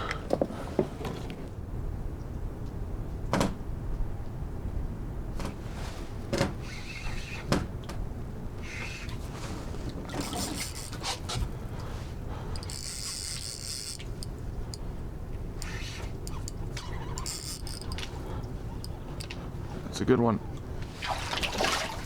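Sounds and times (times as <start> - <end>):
wind and water rumble: 0.0 - 22.0.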